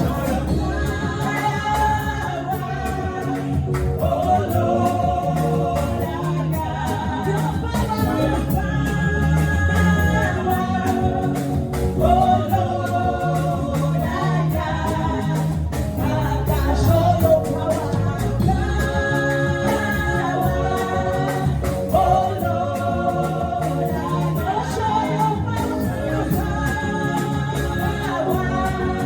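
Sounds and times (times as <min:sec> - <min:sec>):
gospel singing over a beat: 0:00.0 - 0:29.0.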